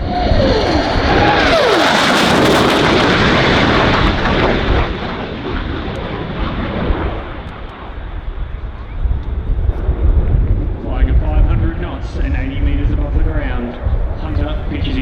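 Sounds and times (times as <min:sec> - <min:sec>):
jet engines roaring past: 0:00.0 - 0:15.0.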